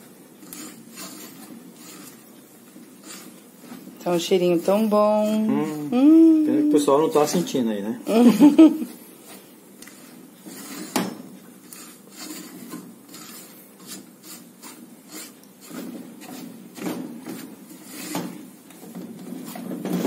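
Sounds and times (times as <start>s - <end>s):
spatula scraping sticky mixture in pot: 0.0s - 7.8s, 9.2s - 20.0s.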